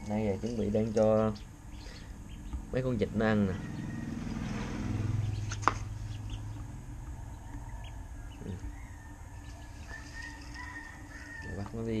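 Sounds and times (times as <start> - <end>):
ducklings peeping: 0.0 - 12.0
low steady hum: 0.0 - 12.0.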